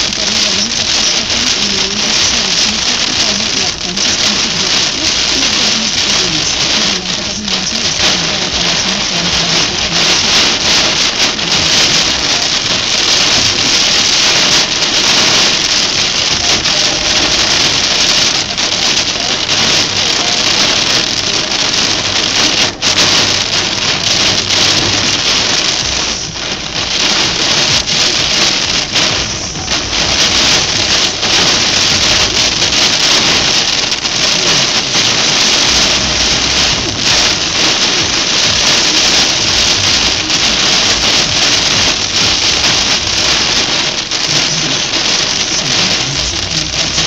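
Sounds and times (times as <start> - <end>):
heavy rain on car roof: 0.0 - 47.0.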